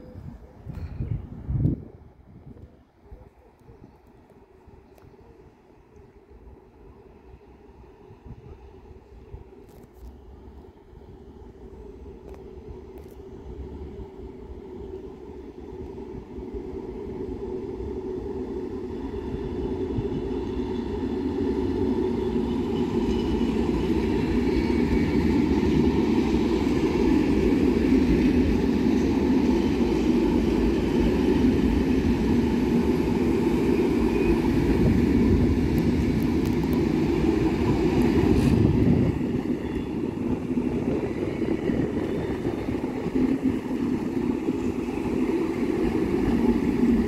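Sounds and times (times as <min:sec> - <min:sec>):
train wheels rumbling on rails: 0:04.1 - 0:47.0.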